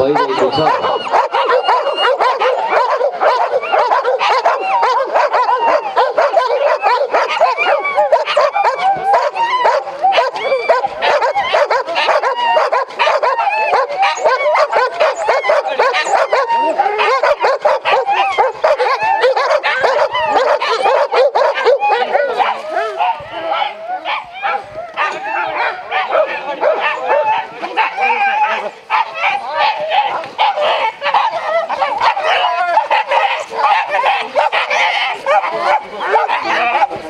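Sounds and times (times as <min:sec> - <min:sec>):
many dogs barking: 0:00.0 - 0:37.0.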